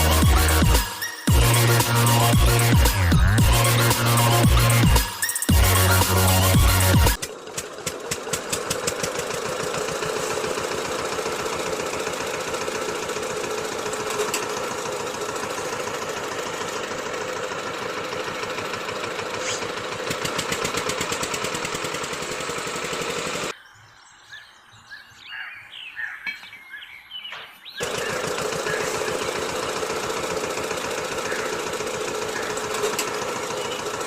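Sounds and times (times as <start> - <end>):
small motor rattling: 0.0 - 23.5, 27.8 - 34.0.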